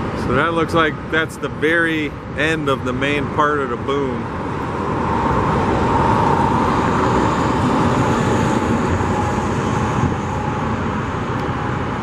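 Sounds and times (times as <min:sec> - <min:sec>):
rumble of motor vehicles: 0:00.0 - 0:12.0.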